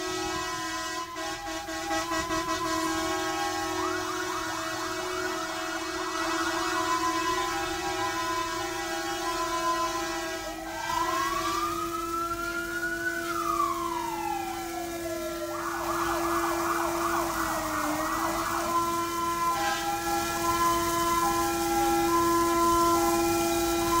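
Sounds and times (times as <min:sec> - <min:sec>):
fire engine sirens wailing: 0:00.0 - 0:24.0
siren fast yelp: 0:00.0 - 0:24.0
two-tone hi-lo siren: 0:00.0 - 0:24.0.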